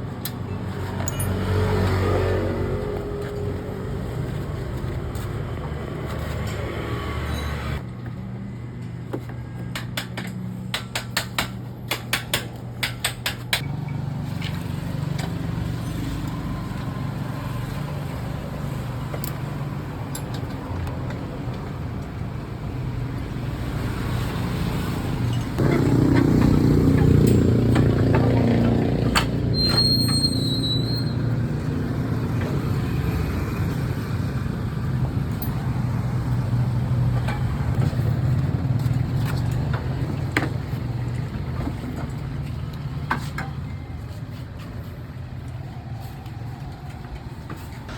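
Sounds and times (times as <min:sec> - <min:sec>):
road traffic hum: 0:00.0 - 0:47.9.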